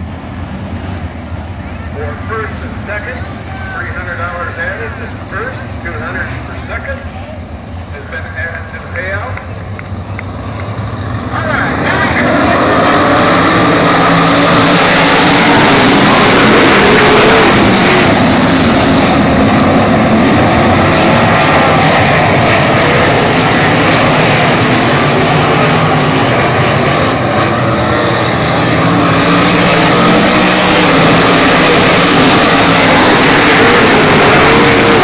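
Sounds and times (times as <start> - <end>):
race car engines at full throttle: 0.0 - 35.0.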